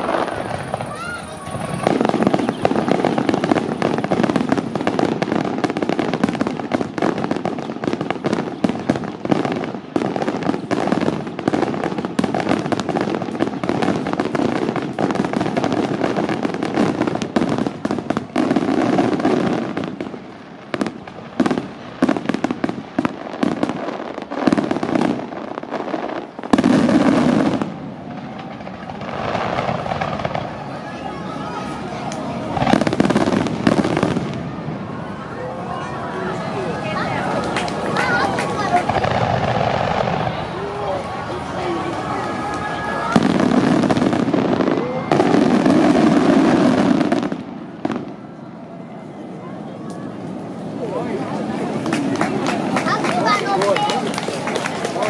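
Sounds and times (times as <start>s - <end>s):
fireworks bangs and crackle: 0.0s - 55.0s.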